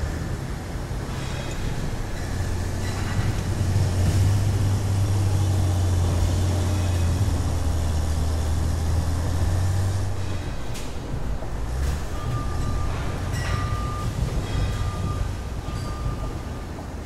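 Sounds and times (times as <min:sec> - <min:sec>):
engine humming: 0:00.0 - 0:17.0
noisy hiss: 0:00.0 - 0:17.0.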